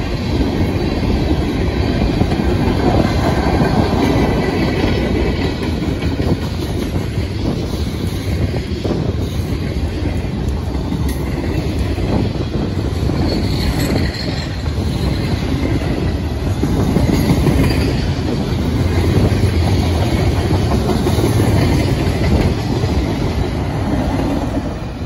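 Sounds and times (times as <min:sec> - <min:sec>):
wheels clacking over rail joints: 0:00.0 - 0:24.9
freight train rumbling: 0:00.0 - 0:25.0.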